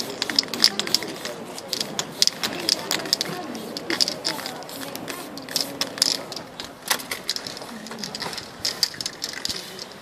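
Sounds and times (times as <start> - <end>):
spray paint can hissing: 0.0 - 6.6, 7.3 - 10.0.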